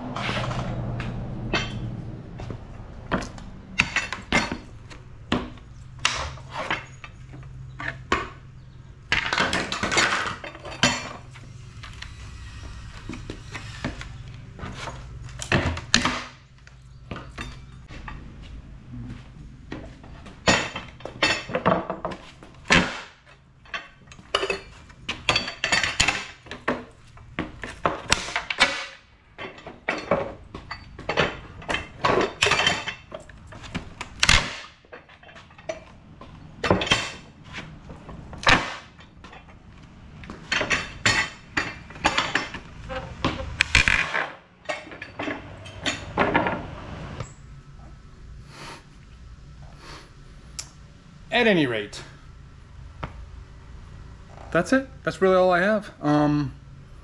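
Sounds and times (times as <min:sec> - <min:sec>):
wood and metal clattering: 0:00.0 - 0:47.3.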